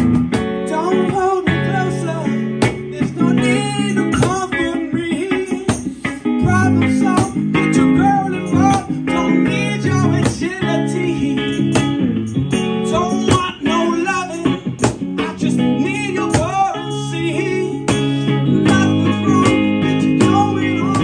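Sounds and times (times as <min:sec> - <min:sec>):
bass notes: 0:00.0 - 0:05.2, 0:06.1 - 0:21.0
person singing: 0:00.0 - 0:21.0
strummed guitar: 0:00.0 - 0:21.0.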